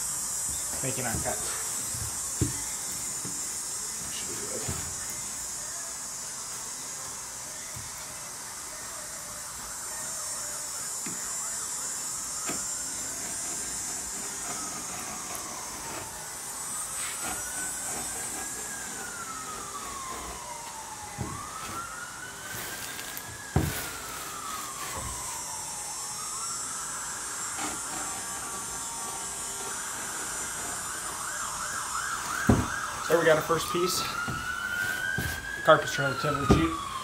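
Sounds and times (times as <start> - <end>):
wailing emergency siren: 0.2 - 37.0.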